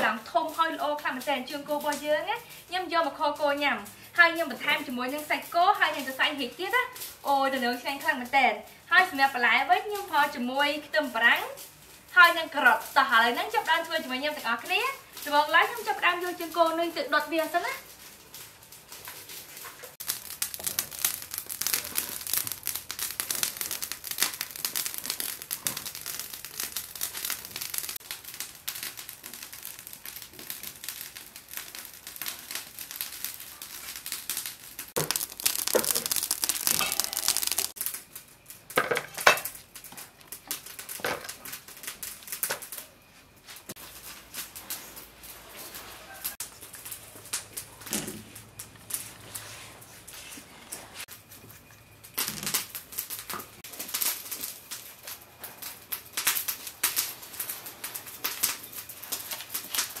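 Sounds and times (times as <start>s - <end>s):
skin crackling on a grill: 0.0s - 60.0s.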